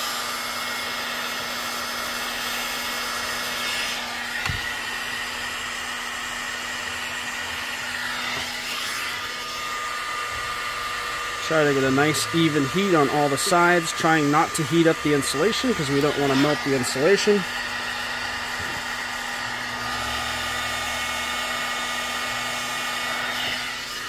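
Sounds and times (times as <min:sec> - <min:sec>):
heat gun blowing: 0:00.0 - 0:24.0.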